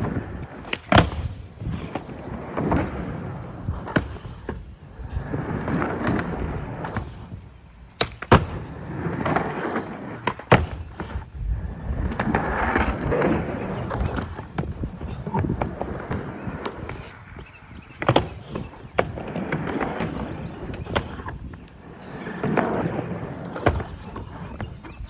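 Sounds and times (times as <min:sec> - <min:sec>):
skateboard clacking: 0:00.0 - 0:25.0
skateboard wheels rolling on wet concrete: 0:00.0 - 0:25.0.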